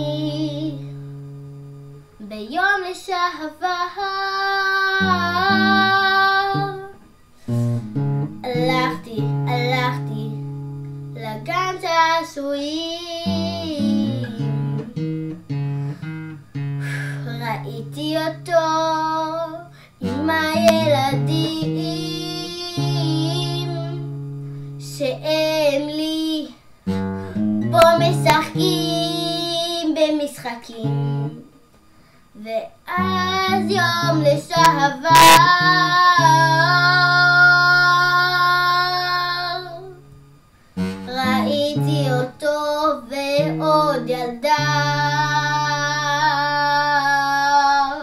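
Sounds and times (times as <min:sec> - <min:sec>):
girl singing: 0:00.0 - 0:01.2, 0:02.1 - 0:16.0, 0:16.8 - 0:31.6, 0:32.3 - 0:40.2, 0:40.8 - 0:48.0
acoustic guitar chords: 0:00.0 - 0:02.8, 0:04.2 - 0:26.2, 0:26.8 - 0:31.8, 0:32.9 - 0:48.0.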